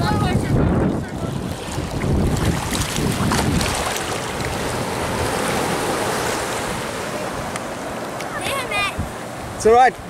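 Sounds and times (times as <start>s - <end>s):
wind rumbling on microphone: 0.0s - 10.0s
small waves breaking in surf: 0.9s - 10.0s.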